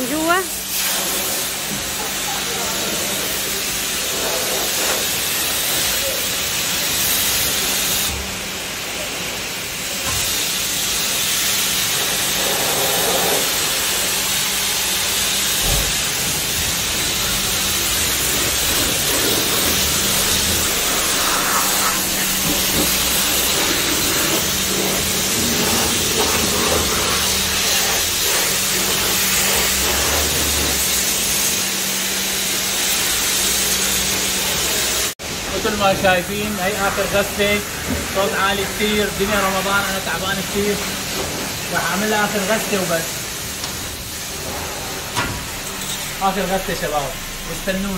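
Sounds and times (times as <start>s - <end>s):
pressure washer spraying water: 0.0s - 47.9s.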